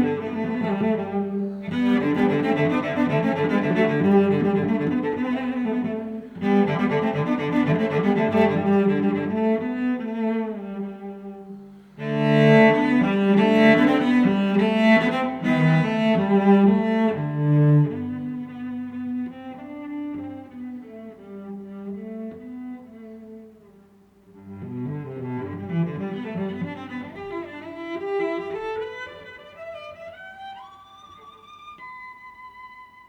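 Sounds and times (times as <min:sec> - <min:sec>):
bowed low strings music: 0:00.0 - 0:23.6, 0:24.4 - 0:33.0.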